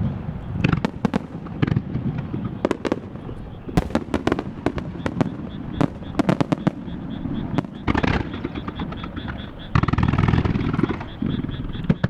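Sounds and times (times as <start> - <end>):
firework shells bursting: 0.2 - 11.1.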